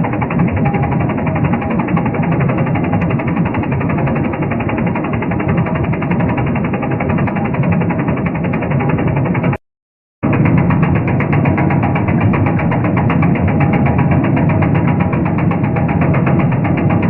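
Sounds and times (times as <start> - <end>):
rotating machine rattling: 0.0 - 9.6, 10.2 - 17.0.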